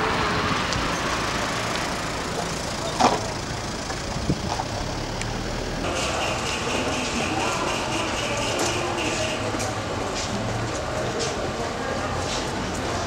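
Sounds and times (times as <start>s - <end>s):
vehicle engine idling: 0.0s - 10.7s.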